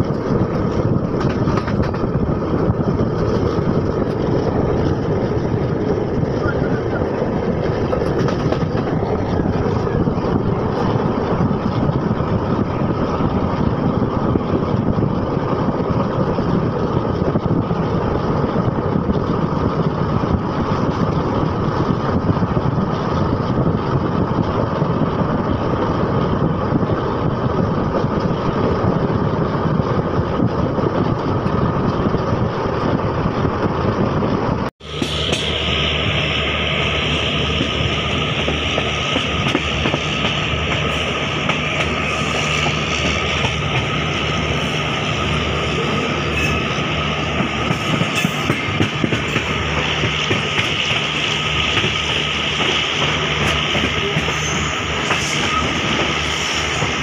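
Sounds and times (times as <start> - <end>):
rushing air: 0.0 - 57.0
train wheels on rail: 0.0 - 57.0.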